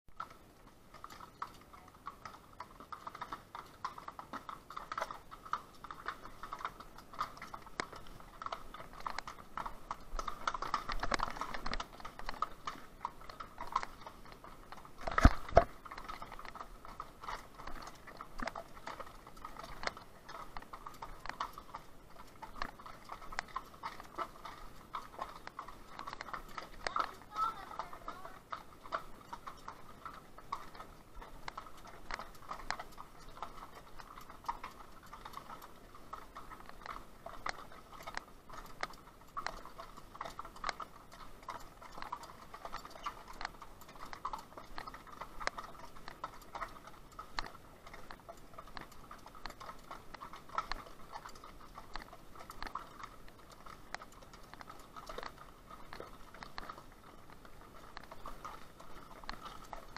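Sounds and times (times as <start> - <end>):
horse hooves on rocky trail: 0.1 - 59.9.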